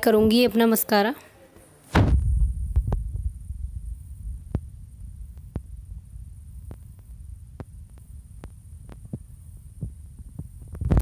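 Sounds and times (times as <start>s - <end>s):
low background hum and rumble: 2.0s - 11.0s.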